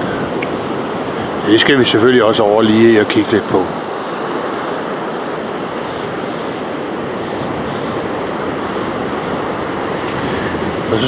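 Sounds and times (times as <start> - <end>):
waves breaking on a sandy beach: 0.0 - 11.0
wind on microphone: 0.0 - 11.0.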